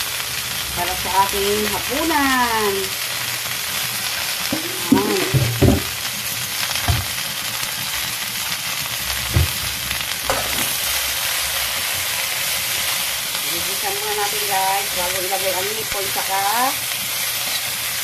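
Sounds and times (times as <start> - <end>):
beans sizzling in a wok: 0.0 - 18.0.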